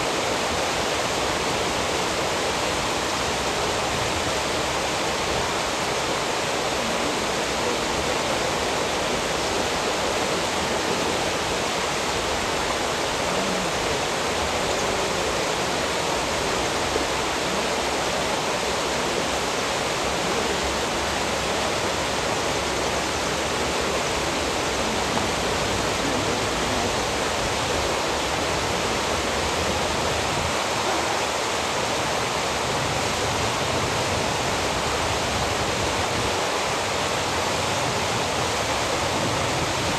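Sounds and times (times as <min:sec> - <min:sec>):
churning water rushing: 0:00.0 - 0:39.9.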